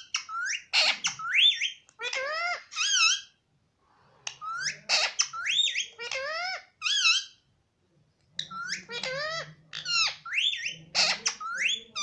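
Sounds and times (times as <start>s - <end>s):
parakeet squawk: 0.0s - 3.4s, 4.2s - 7.5s, 8.4s - 12.0s
parakeet talking: 0.0s - 3.4s, 4.3s - 7.5s, 8.4s - 12.0s.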